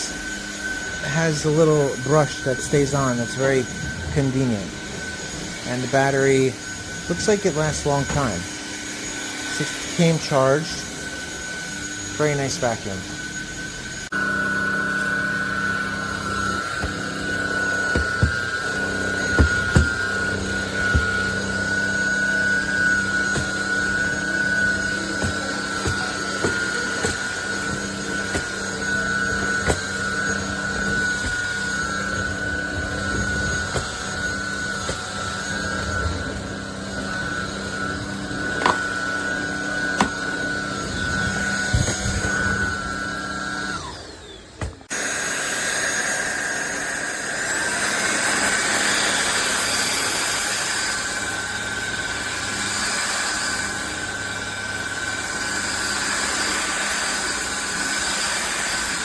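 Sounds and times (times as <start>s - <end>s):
stick vacuum motor whine: 0.0s - 59.0s.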